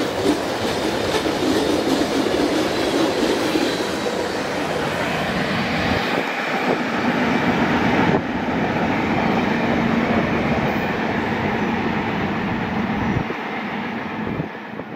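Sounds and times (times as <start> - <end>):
train cars rumbling on rails: 0.0 - 14.9.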